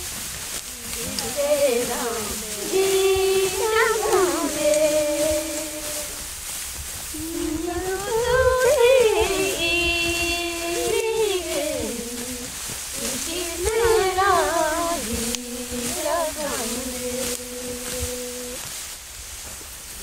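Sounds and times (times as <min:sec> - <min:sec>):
person singing: 0:00.7 - 0:06.3, 0:07.2 - 0:18.7.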